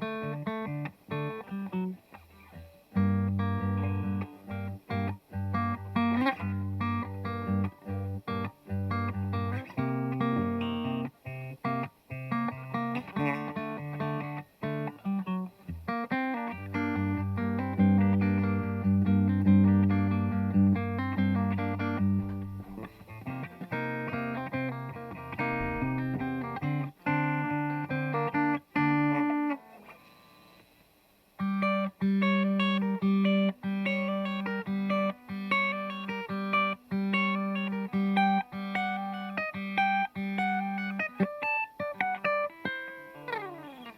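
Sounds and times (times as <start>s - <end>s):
clean electric guitar riff: 0.0s - 30.0s, 31.4s - 43.9s.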